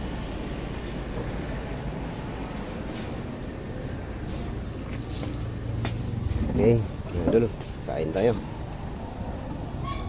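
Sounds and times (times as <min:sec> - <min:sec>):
air conditioner running: 0:00.0 - 0:09.7.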